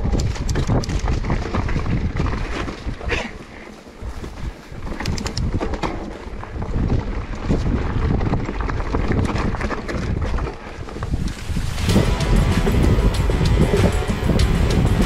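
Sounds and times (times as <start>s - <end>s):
bike tyre noise: 0.0s - 15.0s
wind buffeting microphone: 0.0s - 15.0s.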